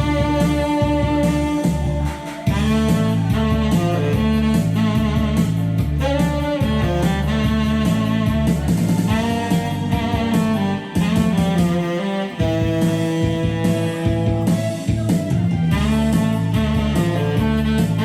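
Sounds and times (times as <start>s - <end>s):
bass line: 0.0s - 18.0s
saxophone melody: 0.0s - 18.0s.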